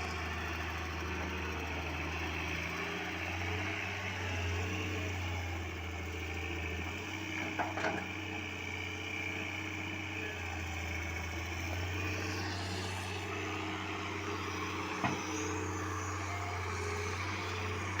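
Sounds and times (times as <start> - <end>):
heavy machinery diesel engine running: 0.0 - 18.0.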